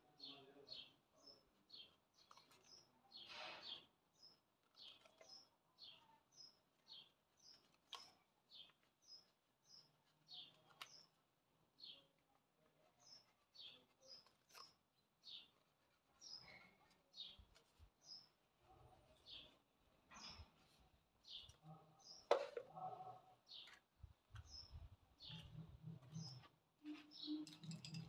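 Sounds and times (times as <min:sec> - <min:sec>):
faint bird chirping: 0:00.0 - 0:28.0.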